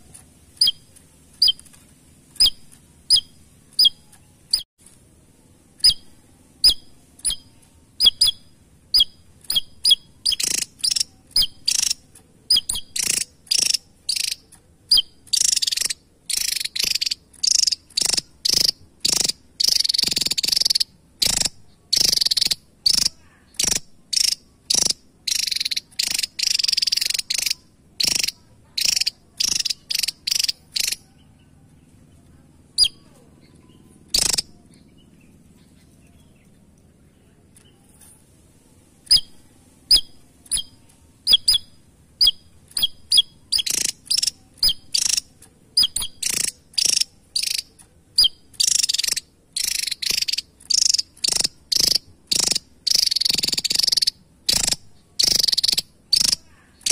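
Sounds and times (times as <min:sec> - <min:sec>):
bird calling with sharp chips: 0:00.0 - 0:04.7, 0:05.7 - 0:38.2, 0:39.0 - 0:56.9.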